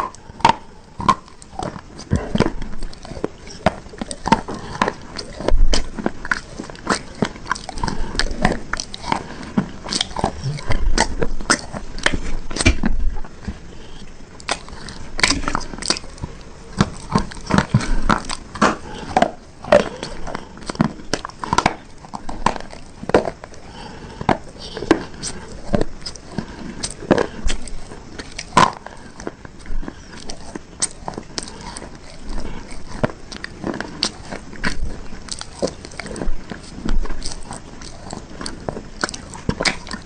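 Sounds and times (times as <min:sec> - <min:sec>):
crunchy bars being chewed: 0:00.0 - 0:40.0.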